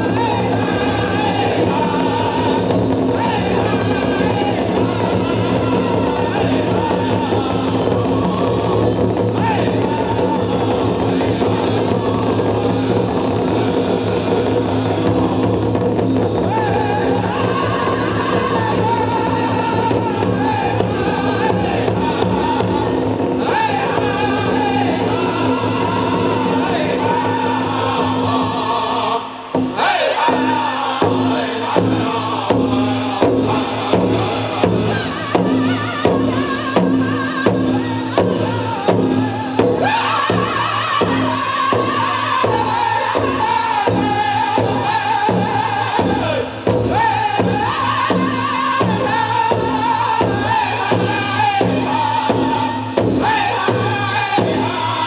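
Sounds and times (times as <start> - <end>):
big drum pounding beat: 0.0 - 55.0
group singing in unison: 0.0 - 55.0.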